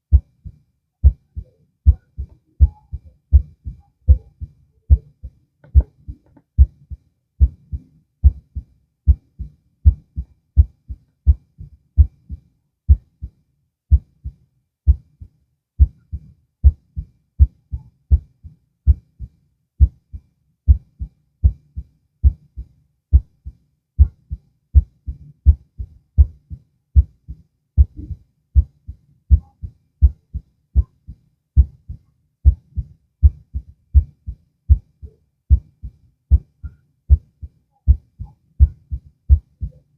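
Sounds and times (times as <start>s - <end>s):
heartbeat through stethoscope: 0.1s - 39.9s.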